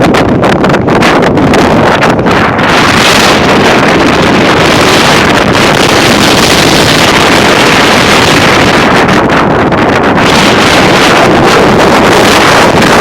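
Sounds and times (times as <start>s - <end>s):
strong wind gusts on microphone: 0.0s - 13.0s.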